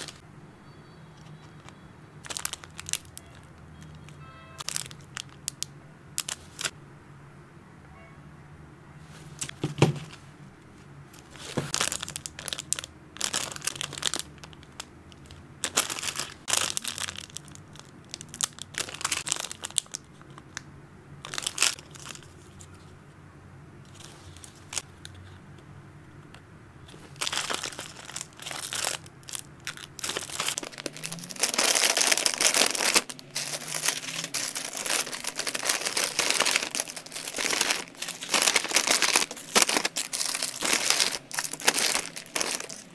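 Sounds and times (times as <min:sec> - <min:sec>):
plastic packets crinkling: 0:00.0 - 0:00.2, 0:01.2 - 0:06.8, 0:11.2 - 0:22.6, 0:23.9 - 0:25.1, 0:26.9 - 0:42.9.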